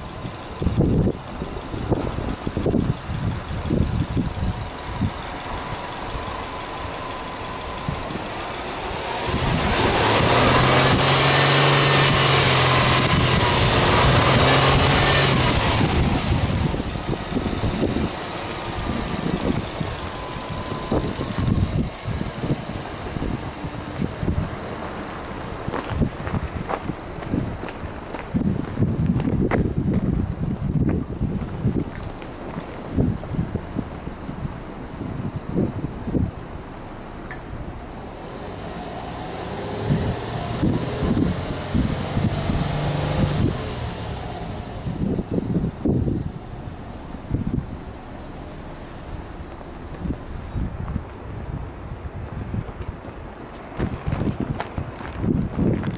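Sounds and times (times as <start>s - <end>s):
car engine idling: 0.0s - 54.8s
wind buffeting microphone: 0.0s - 55.9s.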